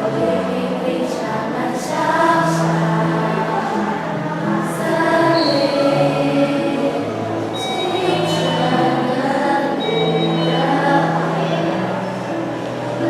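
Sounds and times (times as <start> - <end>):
choir singing slow song: 0.0 - 13.0.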